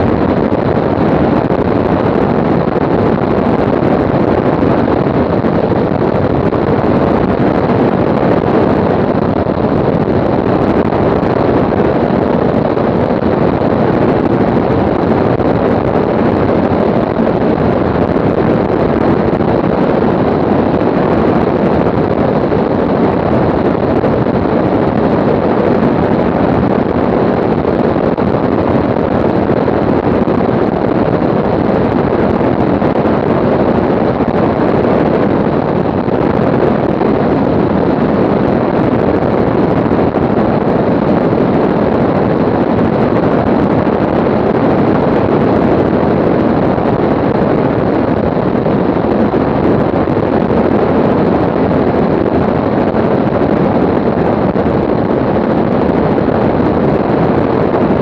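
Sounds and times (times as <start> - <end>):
aircraft airflow and engine noise: 0.0 - 58.0
wind on microphone: 0.0 - 58.0.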